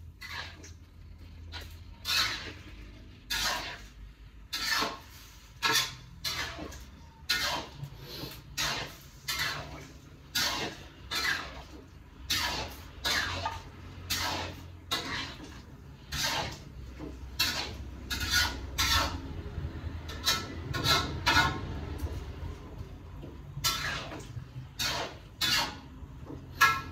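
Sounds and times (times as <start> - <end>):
spatula scraping a pan: 0.0 - 26.9.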